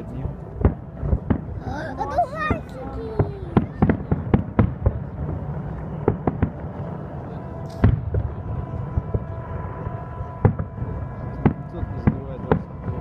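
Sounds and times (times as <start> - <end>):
low rumble: 0.0 - 13.0
fireworks bangs: 0.2 - 1.6, 2.4 - 13.0.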